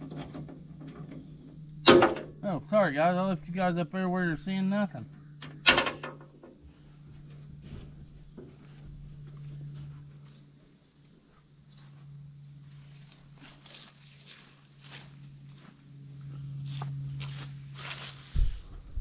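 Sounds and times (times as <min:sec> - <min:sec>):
insect chirring: 0:00.0 - 0:19.0
low hum: 0:00.0 - 0:19.0.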